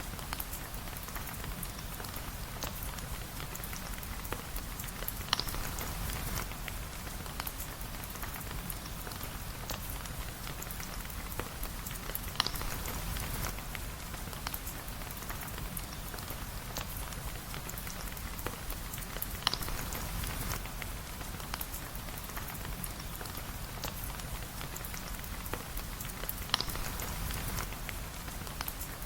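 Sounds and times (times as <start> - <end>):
steady rain hissing: 0.0 - 29.0
sharp ticks and pops: 3.4 - 29.0.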